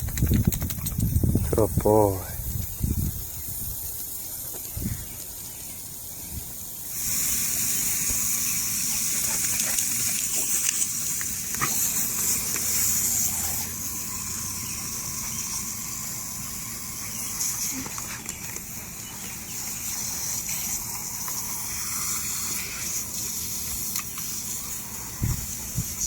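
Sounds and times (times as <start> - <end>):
sprinkler spraying water: 0.0 - 26.0.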